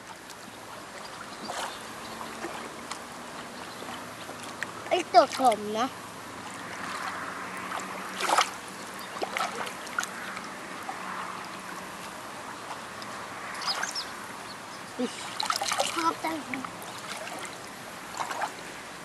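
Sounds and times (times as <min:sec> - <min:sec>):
water splash: 0:00.0 - 0:05.8, 0:06.4 - 0:14.2, 0:15.0 - 0:18.8
water washing: 0:00.0 - 0:14.4, 0:15.0 - 0:18.8.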